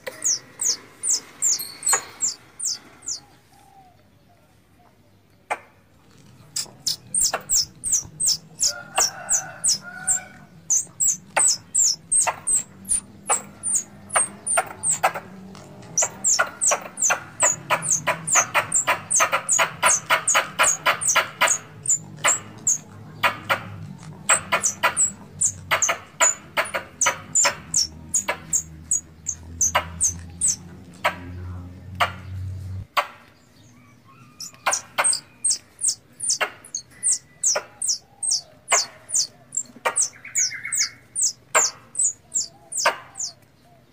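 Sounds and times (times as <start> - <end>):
squirrel chirps: 0.0 - 3.2, 6.5 - 31.2, 34.2 - 43.4
low background hum: 6.0 - 43.8.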